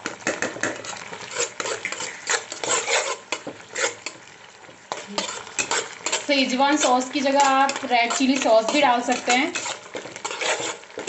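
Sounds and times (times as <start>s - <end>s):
spoon scraping a pan: 0.0s - 11.0s
vegetables sizzling: 0.0s - 11.0s.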